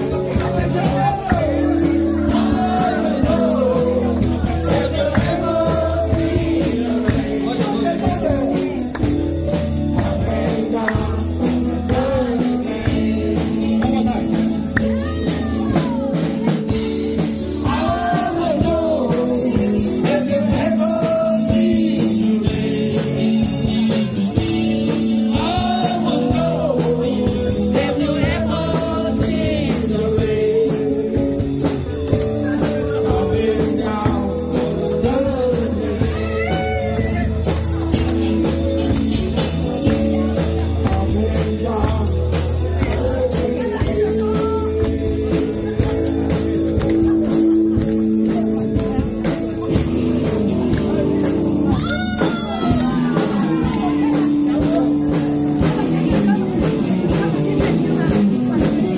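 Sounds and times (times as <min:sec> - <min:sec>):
electric guitar: 0:00.0 - 0:58.9
person singing: 0:00.0 - 0:58.9
steady drum beat: 0:00.0 - 0:58.9.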